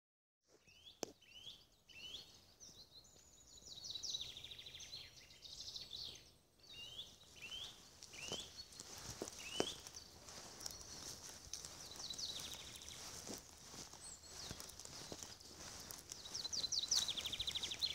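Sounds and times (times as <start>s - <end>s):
birds chirping and trilling: 0.7s - 17.9s.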